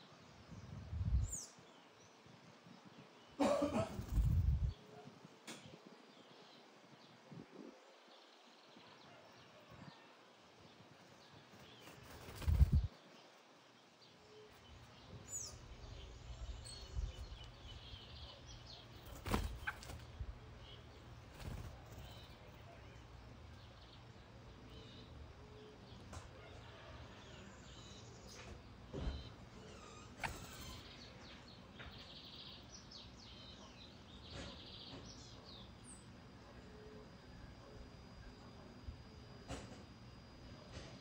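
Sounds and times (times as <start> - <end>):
small birds chirping: 0.0 - 40.8.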